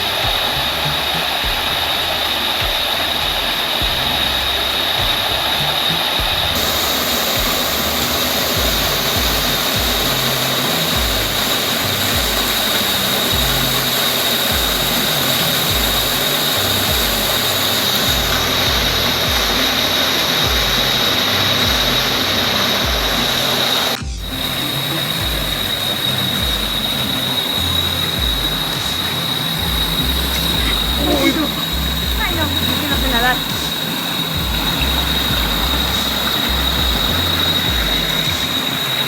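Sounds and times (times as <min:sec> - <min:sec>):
high-pitched whine: 0:00.0 - 0:39.0
music with bass line: 0:00.0 - 0:39.0
waterfall rushing: 0:00.0 - 0:39.0.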